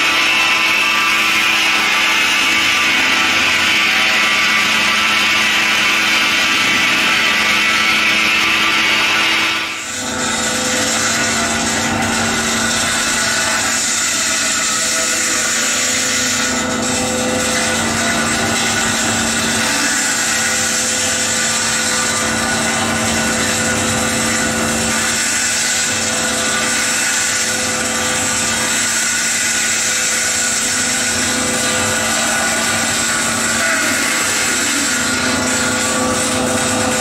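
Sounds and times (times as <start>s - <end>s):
saw grinding through concrete: 0.0s - 37.0s.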